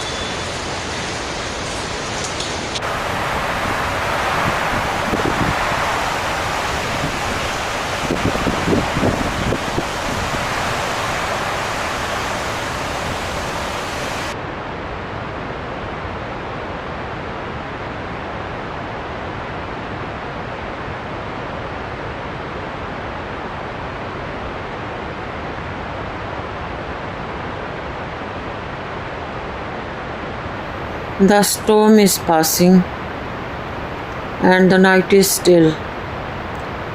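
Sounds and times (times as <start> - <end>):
rain: 0.0 - 36.9
wind: 0.0 - 36.9.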